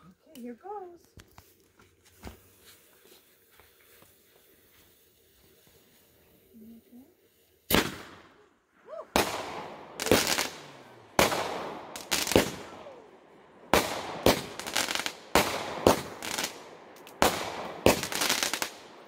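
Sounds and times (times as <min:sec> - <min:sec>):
firework reports with hiss: 0:02.3 - 0:19.0.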